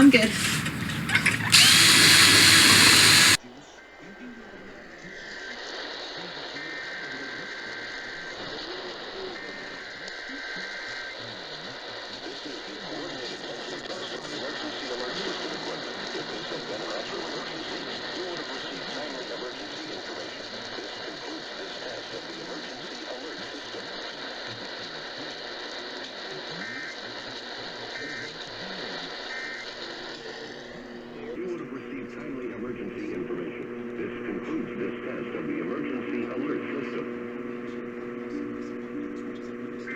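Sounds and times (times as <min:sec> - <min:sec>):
radio receiver hiss: 0:00.0 - 0:03.4, 0:04.2 - 0:39.9
faint muffled broadcast audio: 0:00.0 - 0:39.9.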